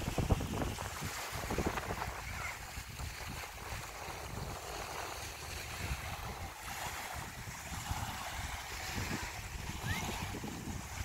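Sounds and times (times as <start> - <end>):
small waves washing onto sand: 0.0 - 11.0
wind buffeting microphone: 0.0 - 11.0.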